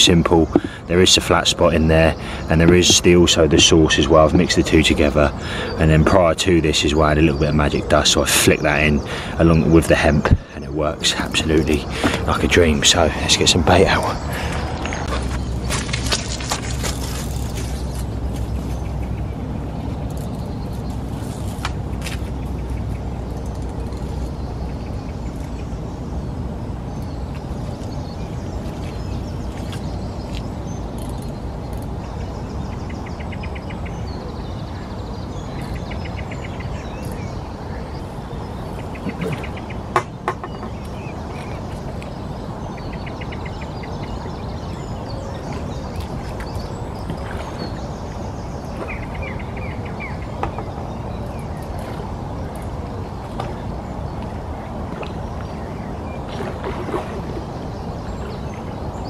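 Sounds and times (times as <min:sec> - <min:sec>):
birds calling: 0:00.0 - 0:59.0.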